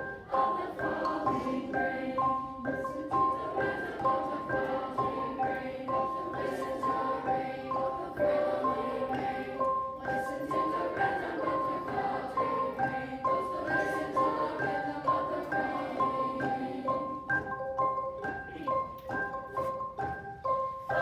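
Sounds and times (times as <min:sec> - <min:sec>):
mallet percussion music: 0:00.0 - 0:21.0.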